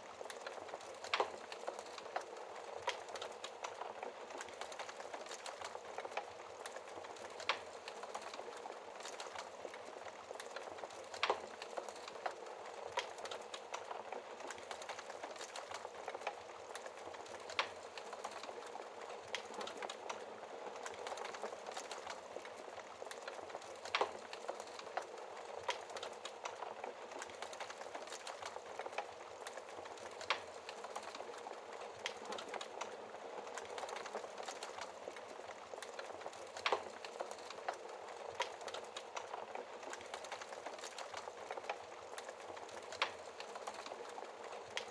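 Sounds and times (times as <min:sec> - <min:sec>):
fire popping: 0:00.0 - 0:44.9
fireplace fire crackling: 0:00.0 - 0:44.9.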